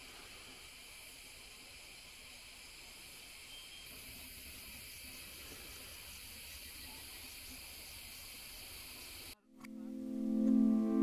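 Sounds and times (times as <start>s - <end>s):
insects chirping: 0.0s - 9.4s.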